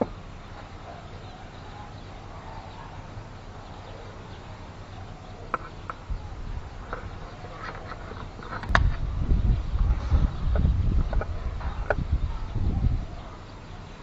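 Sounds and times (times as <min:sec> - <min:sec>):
rumbling rustle of handling: 0:00.0 - 0:14.0.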